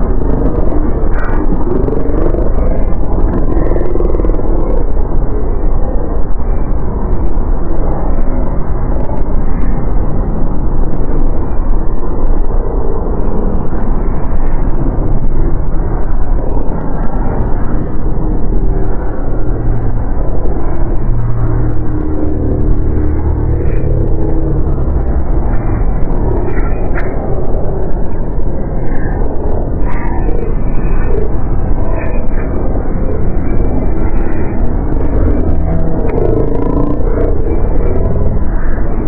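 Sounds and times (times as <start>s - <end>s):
dense low rumble: 0.0s - 39.0s.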